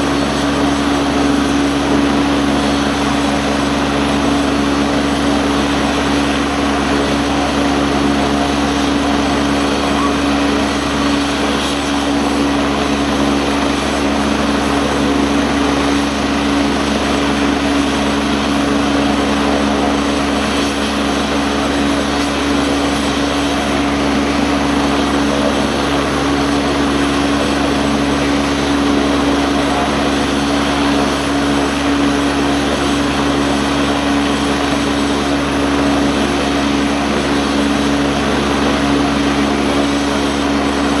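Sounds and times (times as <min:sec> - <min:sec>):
helicopter turbine and rotor rush: 0:00.0 - 0:41.0.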